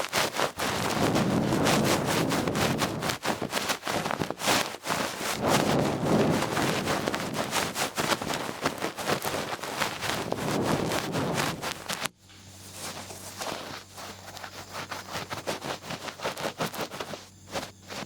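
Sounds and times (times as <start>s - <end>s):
ear pick scratching inside ear: 0.0s - 18.0s.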